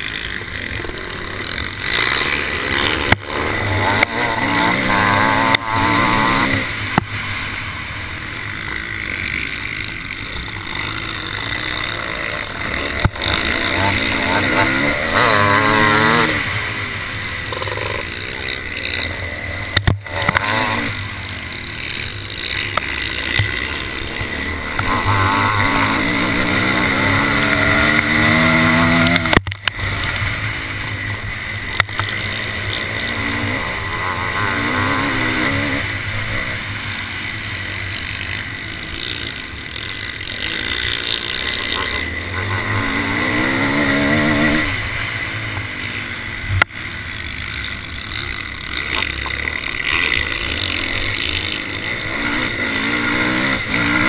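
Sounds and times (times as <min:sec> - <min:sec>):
motorbike engine revving: 0:00.0 - 0:54.0.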